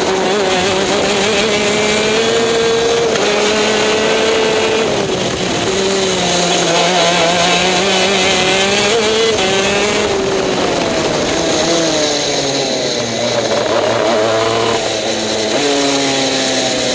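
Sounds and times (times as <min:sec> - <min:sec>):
kart engine running hard: 0:00.0 - 0:16.9.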